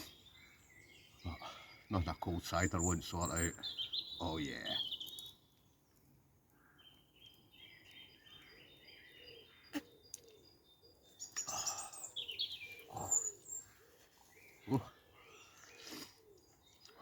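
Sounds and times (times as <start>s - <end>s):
small birds singing: 0.0s - 17.0s.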